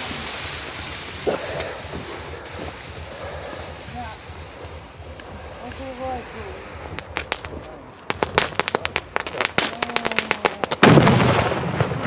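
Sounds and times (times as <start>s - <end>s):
rush of sparks: 0.0s - 11.1s
firework crackles and pops: 0.0s - 12.0s
loud firework blast: 0.0s - 12.0s.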